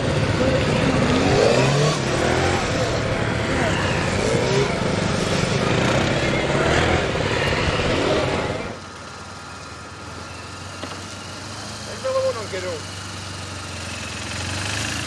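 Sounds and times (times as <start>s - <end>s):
motorcycle engines revving: 0.0s - 15.0s
motorcycle running at low speed: 0.0s - 15.0s.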